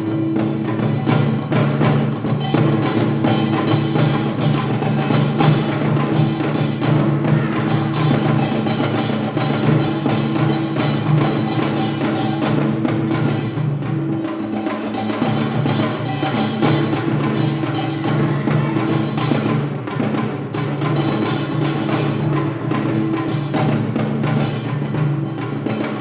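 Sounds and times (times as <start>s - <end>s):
drum and gong strokes: 0.0s - 26.0s.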